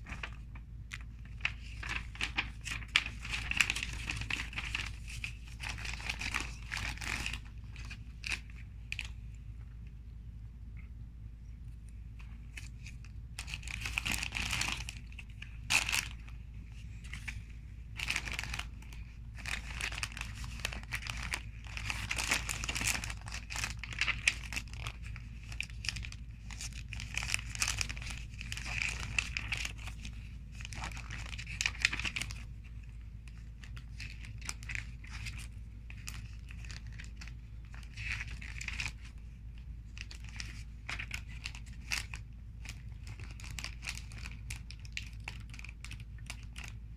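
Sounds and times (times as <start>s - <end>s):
plastic bags crinkling: 0.0s - 9.1s, 12.5s - 46.9s
booklet pages rustling: 0.0s - 9.8s, 11.8s - 46.9s.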